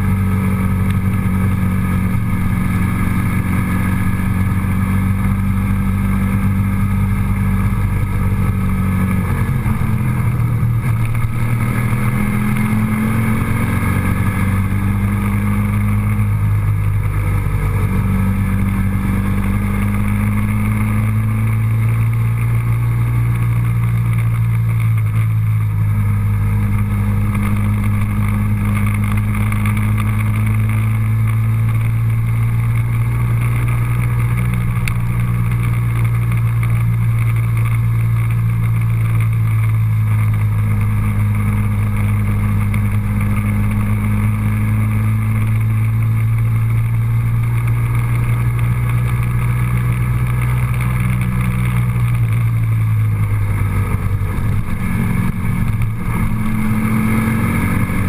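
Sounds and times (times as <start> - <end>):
road noise: 0.0 - 58.0
vehicle engine droning: 0.0 - 58.0.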